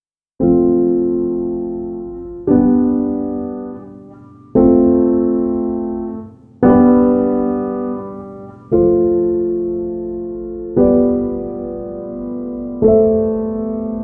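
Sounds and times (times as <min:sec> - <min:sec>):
slow piano chords: 0:00.4 - 0:14.0.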